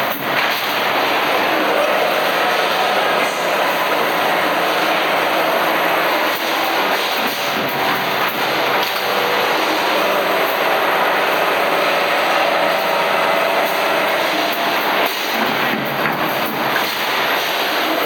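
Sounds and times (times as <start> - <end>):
tube cutting machine running: 0.0 - 18.0.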